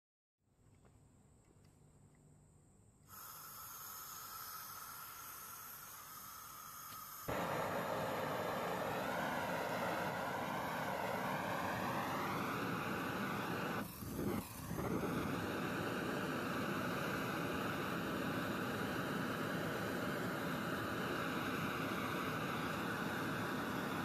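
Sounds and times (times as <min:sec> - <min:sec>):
gas hissing: 0:03.0 - 0:24.0
blowtorch flame roaring: 0:03.2 - 0:24.0.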